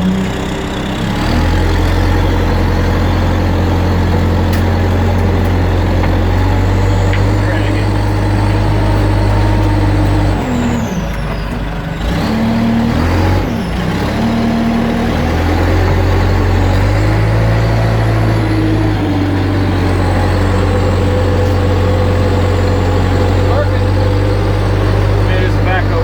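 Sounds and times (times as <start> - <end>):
backhoe engine running: 0.0 - 26.0.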